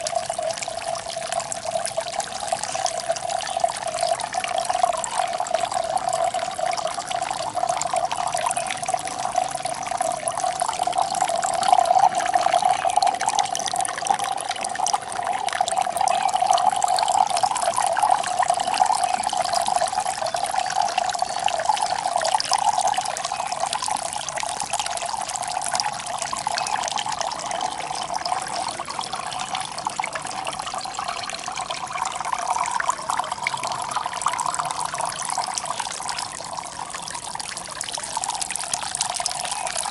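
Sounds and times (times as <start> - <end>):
fountain water splashing into jar: 0.0 - 39.9.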